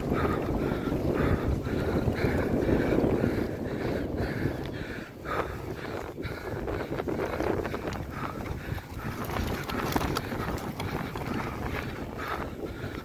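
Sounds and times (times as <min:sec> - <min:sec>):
bike rattling over rough ground: 0:00.0 - 0:13.0
wind on microphone: 0:00.0 - 0:13.0.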